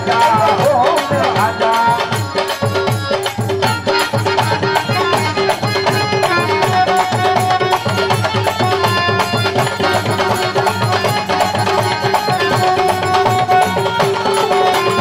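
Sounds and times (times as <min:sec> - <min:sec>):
hand drums: 0:00.0 - 0:15.0
melody of held notes: 0:02.3 - 0:15.0.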